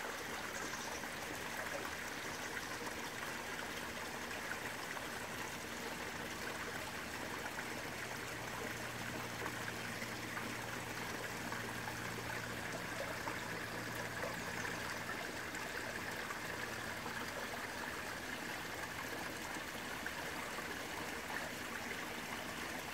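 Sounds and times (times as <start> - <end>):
fountain splashing into pond: 0.0 - 22.9.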